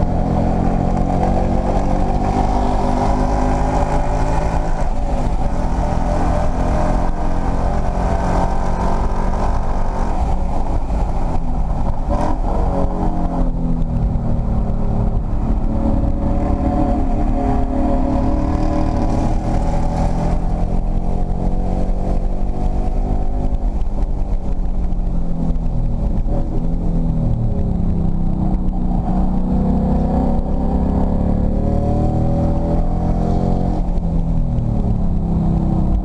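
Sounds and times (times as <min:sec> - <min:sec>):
car engine at full throttle: 0:00.0 - 0:36.0.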